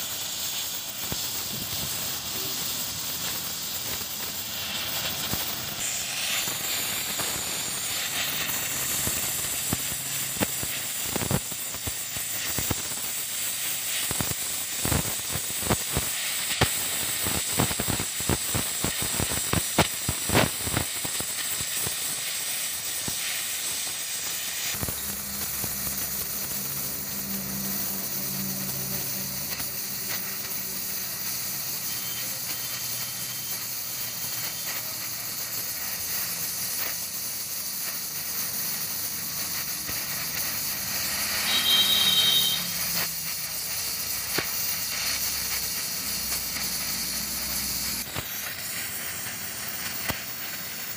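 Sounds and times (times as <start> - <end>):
crackling pops: 0.0 - 50.9
welding torch flame hissing: 0.0 - 50.9.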